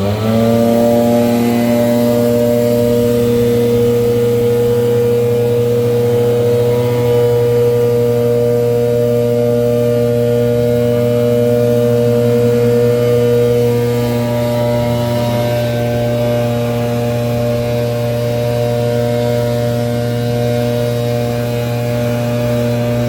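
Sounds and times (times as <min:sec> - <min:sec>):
leaf blower engine running: 0:00.0 - 0:23.0.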